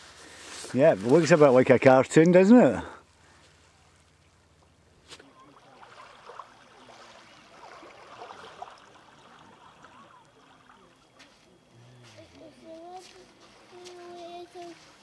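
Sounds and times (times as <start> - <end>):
seawater lapping at shore: 0.0 - 15.0.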